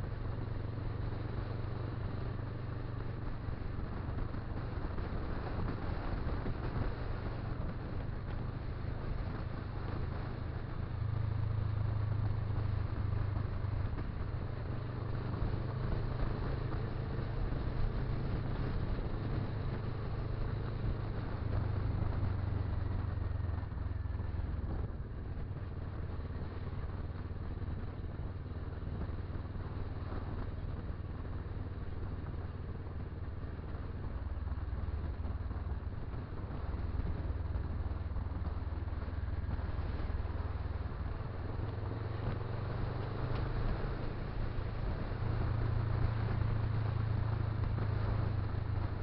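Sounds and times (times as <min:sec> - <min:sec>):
motorcycle engine drone: 0:00.0 - 0:49.0
wind and road rush: 0:00.0 - 0:49.0.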